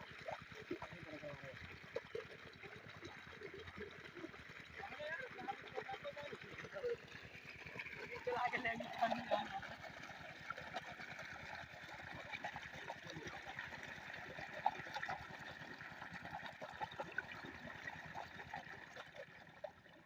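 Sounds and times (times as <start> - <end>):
diesel water pump chugging: 0.0 - 20.0
water splashing: 0.1 - 20.0.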